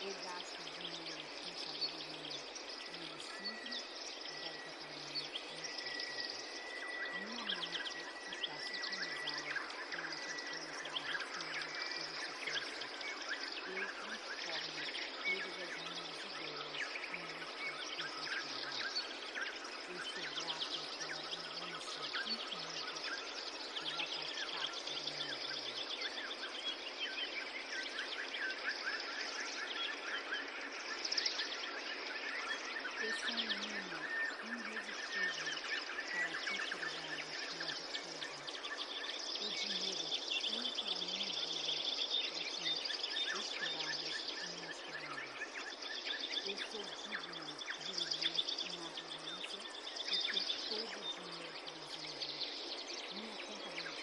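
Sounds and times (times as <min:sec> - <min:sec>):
faint muffled voice murmuring: 0:00.0 - 0:54.0
rain hiss: 0:00.0 - 0:54.0
songbirds chirping and warbling: 0:00.0 - 0:54.0.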